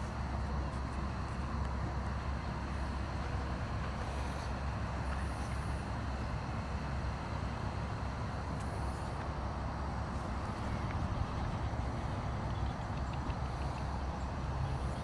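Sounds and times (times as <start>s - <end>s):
electric blower fan humming: 0.0s - 15.0s.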